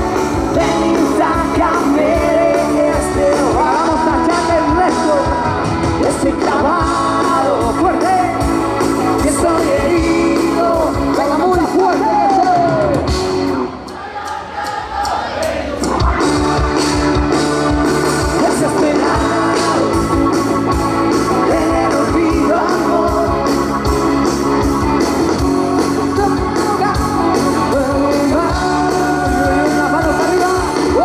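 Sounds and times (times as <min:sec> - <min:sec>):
electric guitar: 0:00.0 - 0:13.8, 0:15.8 - 0:31.0.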